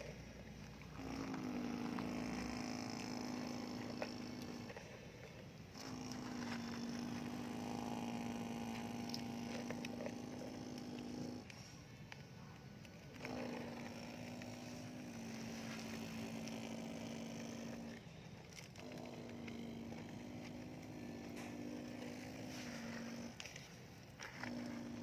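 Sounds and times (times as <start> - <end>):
electric motor whining: 0.0 - 11.8, 12.8 - 25.0.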